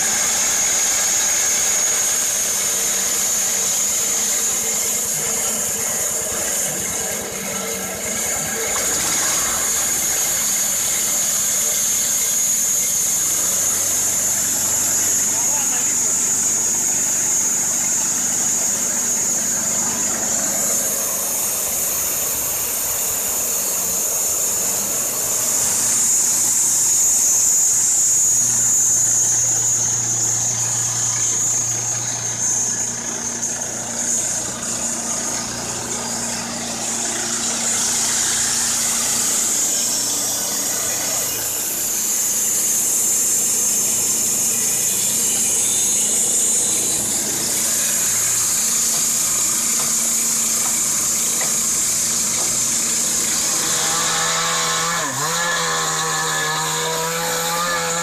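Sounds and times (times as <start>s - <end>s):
petrol engine running under load: 0.0s - 55.4s
bandsaw blade whine: 0.0s - 58.0s.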